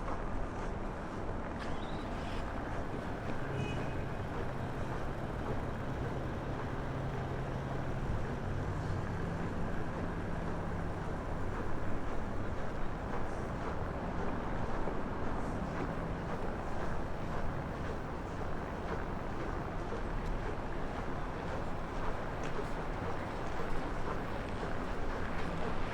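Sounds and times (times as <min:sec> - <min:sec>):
vehicle engine humming: 0:00.9 - 0:25.9.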